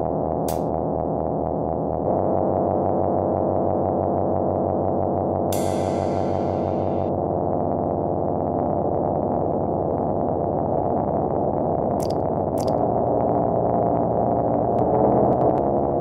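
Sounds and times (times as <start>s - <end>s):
low synthesizer drone: 0.0s - 16.0s.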